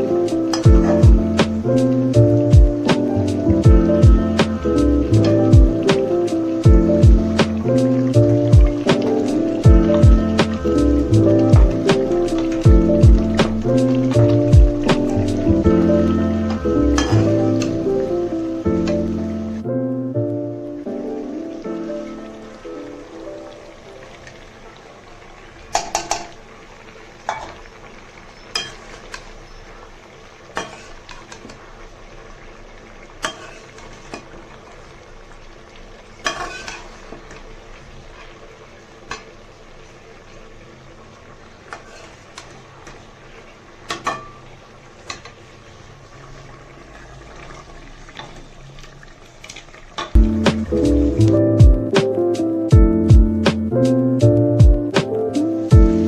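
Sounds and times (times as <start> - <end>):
meat frying sizzle: 0.0 - 19.6, 20.3 - 56.0.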